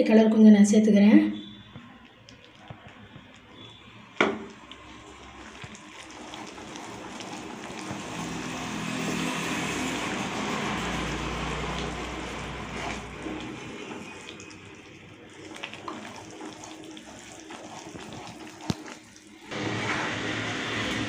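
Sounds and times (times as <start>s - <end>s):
batter sizzling in a pan: 1.4s - 21.0s.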